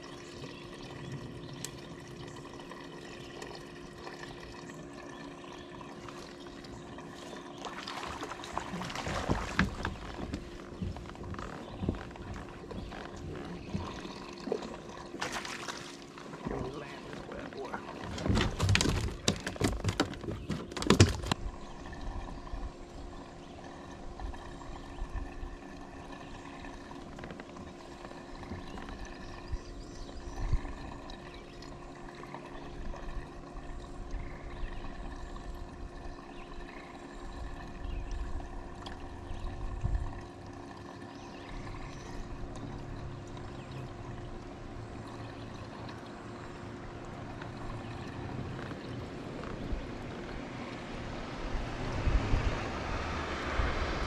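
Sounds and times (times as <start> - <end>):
water lapping against hull: 0.0 - 54.0.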